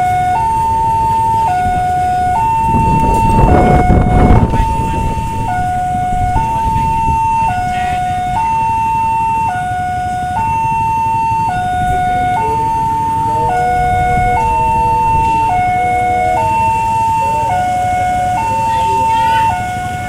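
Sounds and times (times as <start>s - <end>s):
level crossing alarm two-tone: 0.0s - 20.0s
road traffic rumble: 0.0s - 20.0s.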